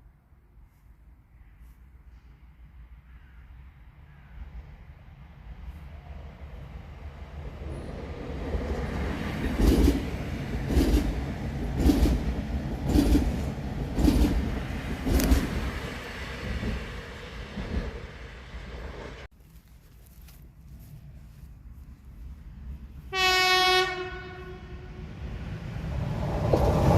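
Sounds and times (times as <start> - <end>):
train rumble: 3.7 - 19.3, 20.6 - 26.9.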